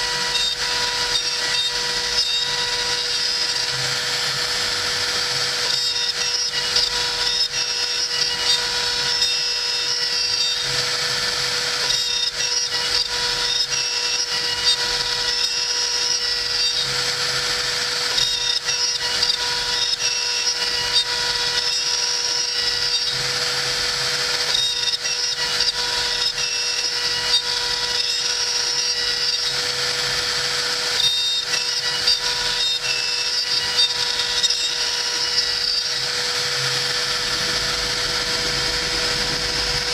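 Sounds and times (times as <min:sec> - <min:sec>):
cutter milling hardwood: 0:00.0 - 0:39.9
router spindle high whine: 0:00.0 - 0:39.9.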